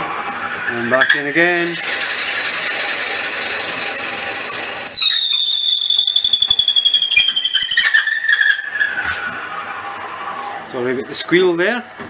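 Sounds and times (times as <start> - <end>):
drill bit squealing in wood: 0.7 - 11.4.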